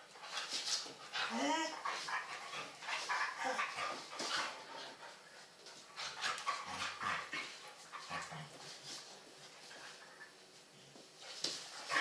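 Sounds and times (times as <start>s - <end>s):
dogs scuffling: 0.0s - 12.0s
dogs panting: 0.1s - 10.4s.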